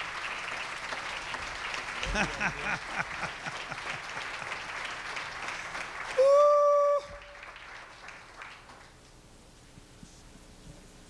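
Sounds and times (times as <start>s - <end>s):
congregation applauding: 0.0s - 9.0s.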